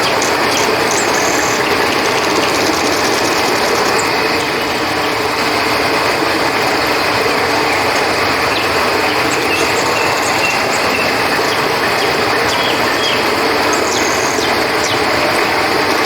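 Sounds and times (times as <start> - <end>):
crickets chorus: 0.0 - 16.0
river water rushing: 0.0 - 16.0.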